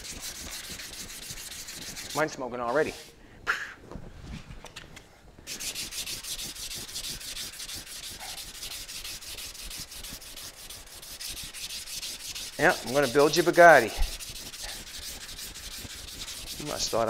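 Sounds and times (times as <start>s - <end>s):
sandpaper rubbing on metal: 0.0s - 3.1s, 5.5s - 17.0s.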